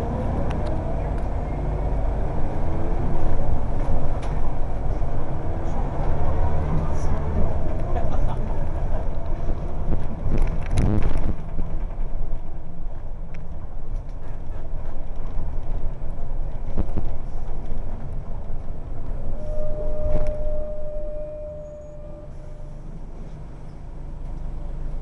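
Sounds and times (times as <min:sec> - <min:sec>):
bus clatter: 0:00.0 - 0:25.0
bus engine and road drone: 0:00.0 - 0:25.0.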